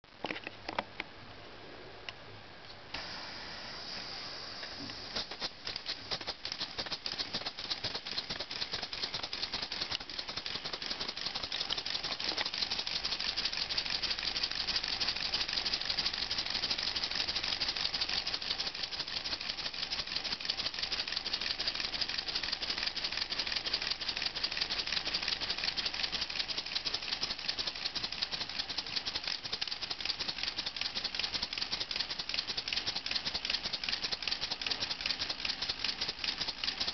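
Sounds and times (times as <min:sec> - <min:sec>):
plastic engine rattling clatter: 0:05.2 - 0:36.9.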